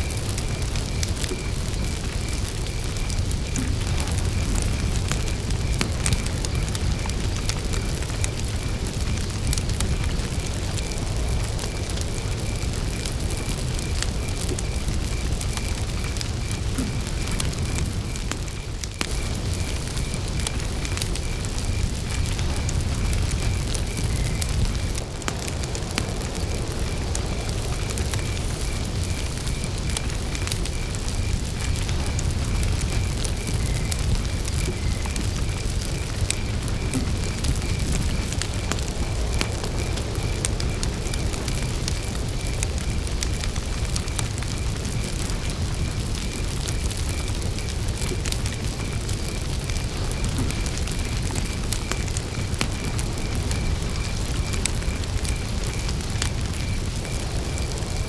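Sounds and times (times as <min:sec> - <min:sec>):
campfire crackling and popping: 0:00.0 - 0:58.0
cricket chirping: 0:00.0 - 0:58.0.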